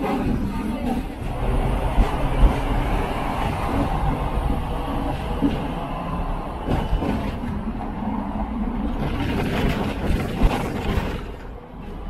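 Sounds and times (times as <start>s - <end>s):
tram rumbling along street: 0.0s - 12.0s.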